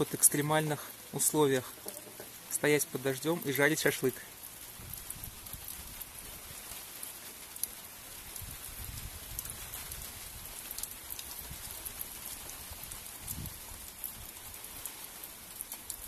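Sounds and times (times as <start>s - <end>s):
raindrops ticking: 0.0s - 16.0s
steady rain hiss: 0.0s - 16.0s.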